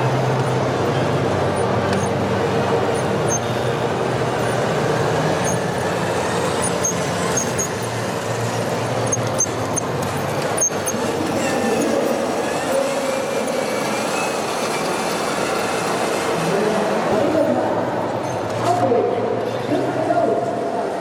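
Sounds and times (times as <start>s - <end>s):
motor running steadily: 0.0s - 18.2s.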